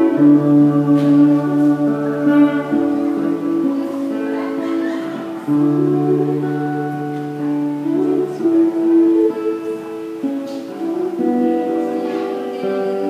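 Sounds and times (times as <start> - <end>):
acoustic guitar: 0.0 - 13.0
woman singing into a microphone: 0.0 - 13.0.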